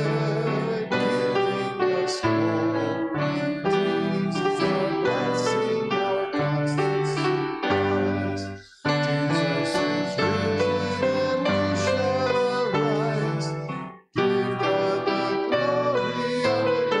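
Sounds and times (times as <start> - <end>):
piano slow chords: 0.0 - 17.0.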